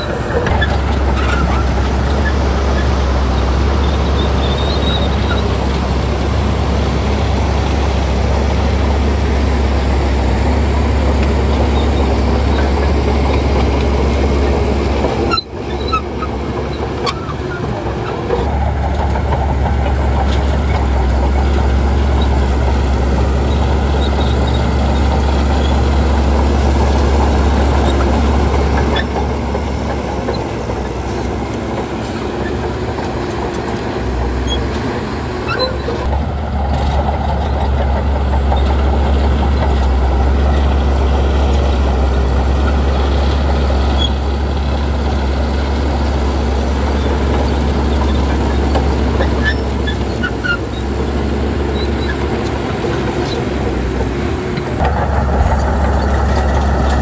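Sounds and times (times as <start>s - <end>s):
heavy diesel machinery engine drone: 0.0s - 57.0s.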